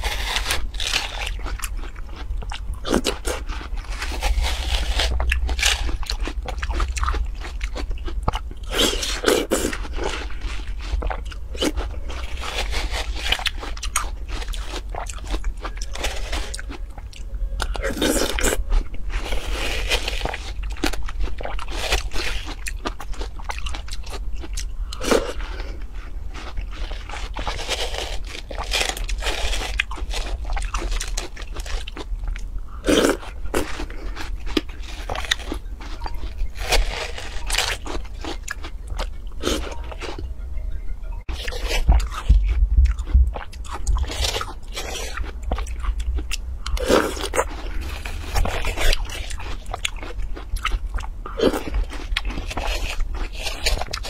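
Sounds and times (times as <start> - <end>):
wet crunching and chewing: 0.0 - 40.3, 41.2 - 54.0.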